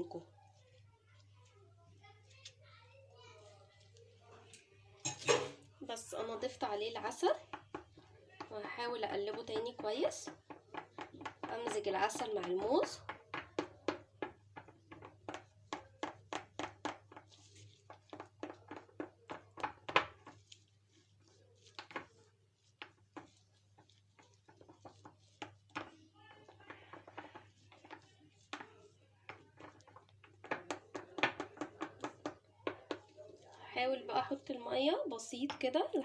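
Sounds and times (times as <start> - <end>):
wooden spoon knocking bowl: 6.2 - 36.0.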